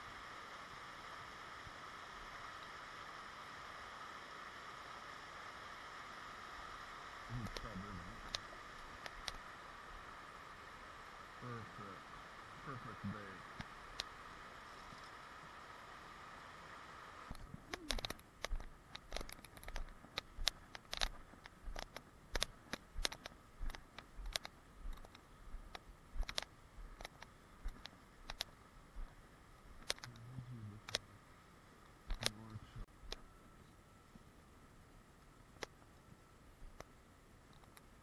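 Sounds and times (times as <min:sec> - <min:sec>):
steady hiss: 0:00.0 - 0:38.0.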